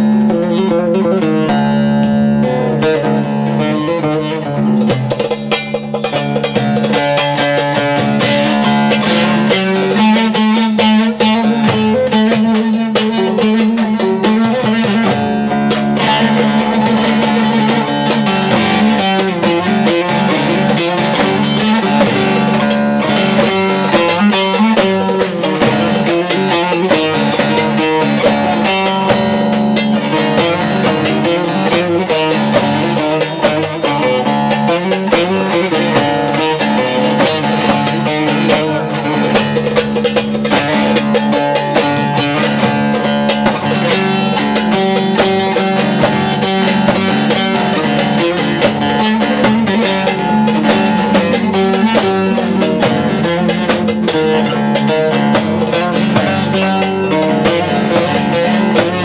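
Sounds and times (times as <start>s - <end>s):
long-necked lute folk melody: 0.0s - 59.0s.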